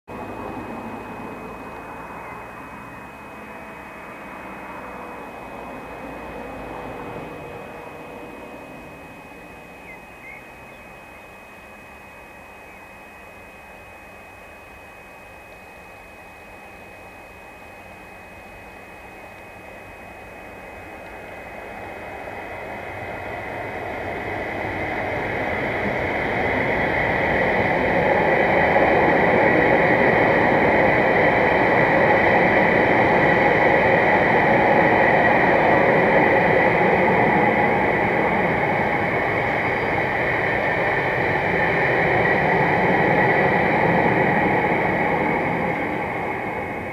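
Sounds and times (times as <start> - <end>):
wagons rumbling over rails: 0.1 - 12.4, 19.4 - 46.9
diesel locomotive passing: 0.1 - 46.9
high whine: 0.1 - 46.9.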